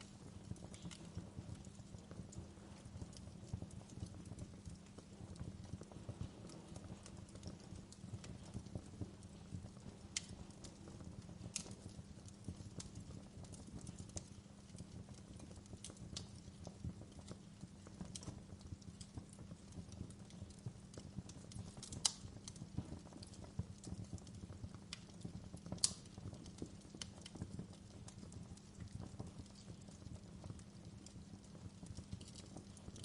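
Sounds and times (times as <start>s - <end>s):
fire crackles and pops: 0.0s - 33.0s
fire low rumble: 0.0s - 33.0s.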